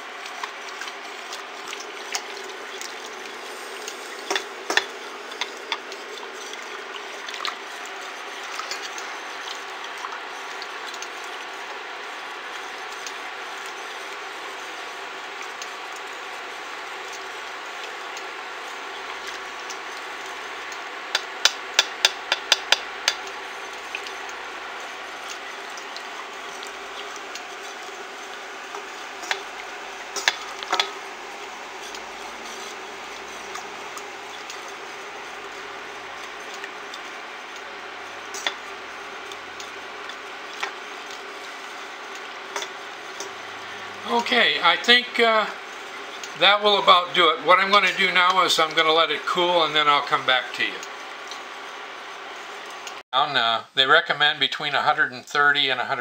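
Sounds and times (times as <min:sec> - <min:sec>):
spatula scraping metal saucepan: 0:00.3 - 0:16.7, 0:21.1 - 0:52.7.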